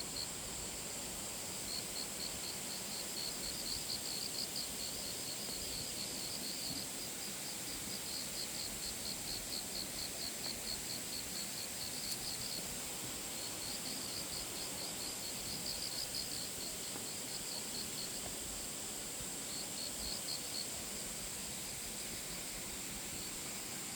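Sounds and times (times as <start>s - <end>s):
steady high hiss: 0.0s - 23.9s
insect chirping trill: 1.4s - 23.9s.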